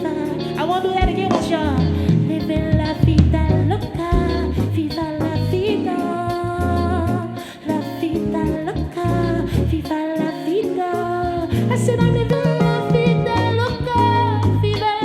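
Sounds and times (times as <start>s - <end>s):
steady bass line: 0.0s - 7.4s, 8.0s - 10.0s, 11.2s - 15.0s
live band playing soul music: 0.0s - 15.0s.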